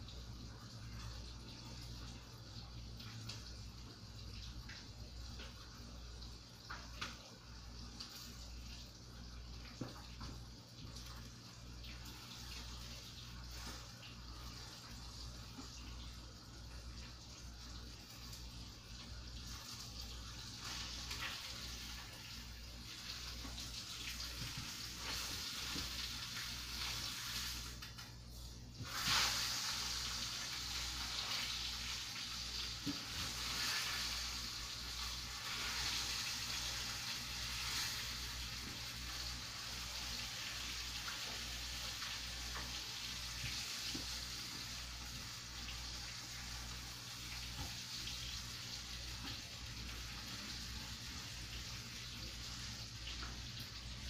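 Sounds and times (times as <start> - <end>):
fish frying in hot oil: 0.0 - 54.0.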